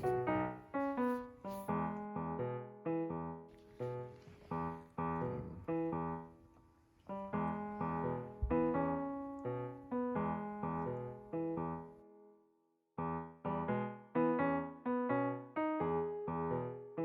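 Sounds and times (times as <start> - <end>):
gentle piano music: 0.0 - 12.4, 13.0 - 17.0.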